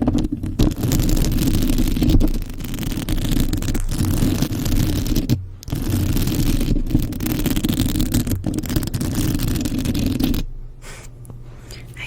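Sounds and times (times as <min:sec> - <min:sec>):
fingernails scratching a surface: 0:00.0 - 0:10.5.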